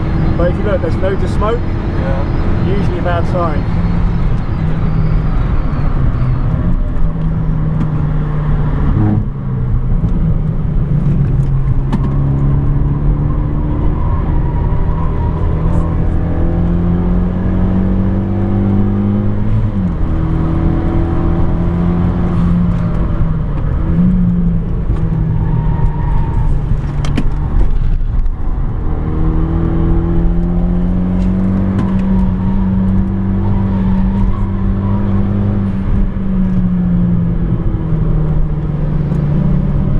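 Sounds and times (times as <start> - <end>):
car engine revving: 0.0 - 39.9
tyre and road noise: 0.0 - 39.9.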